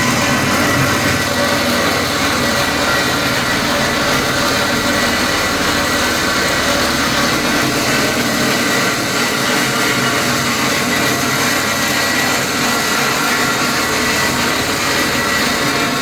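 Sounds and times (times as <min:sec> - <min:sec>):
pipe-cutting machine humming: 0:00.0 - 0:16.0.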